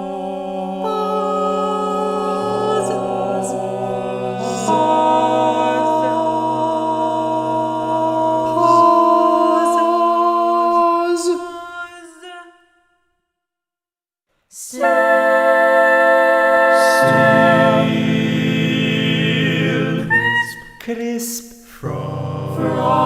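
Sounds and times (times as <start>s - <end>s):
choir singing held chords: 0.0s - 12.6s, 14.6s - 20.9s, 21.8s - 23.0s.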